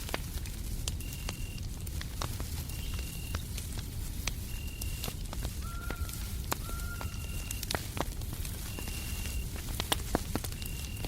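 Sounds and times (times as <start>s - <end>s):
low rumble of white noise: 0.0s - 11.0s
wood fire crackling and popping: 0.0s - 11.0s.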